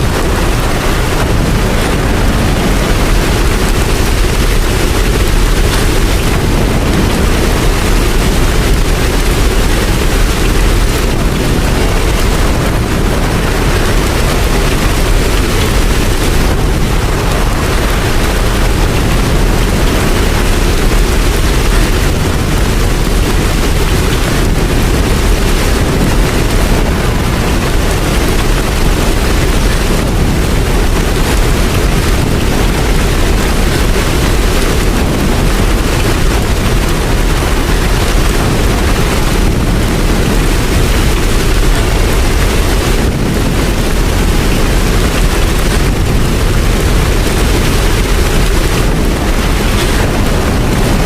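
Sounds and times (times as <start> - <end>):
low rumble: 0.0 - 51.0
steady rain falling: 0.0 - 51.0.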